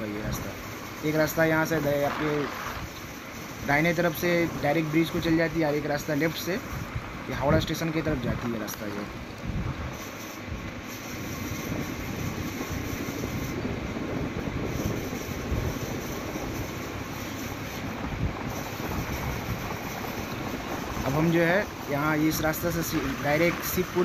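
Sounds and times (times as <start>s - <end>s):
wind rushing: 0.0s - 8.4s, 9.0s - 24.0s
motorcycle road noise: 0.0s - 24.0s.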